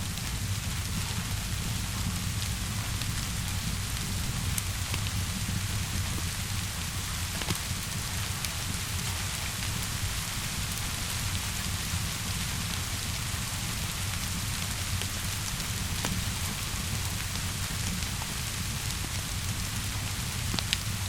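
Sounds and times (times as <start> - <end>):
steady rainfall: 0.0 - 21.0
wood fire crackling: 0.1 - 21.0.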